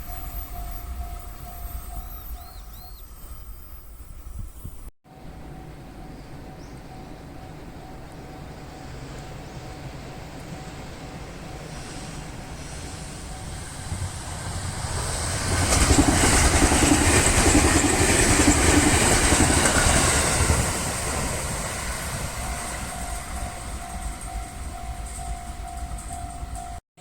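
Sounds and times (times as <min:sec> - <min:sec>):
train wheels on rails: 0:00.0 - 0:26.8.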